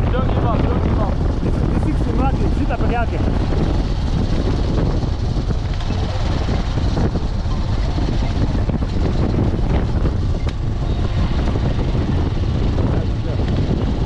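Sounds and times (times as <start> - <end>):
moving vehicle drone: 0.0 - 14.0
wind buffeting microphone: 0.0 - 14.0.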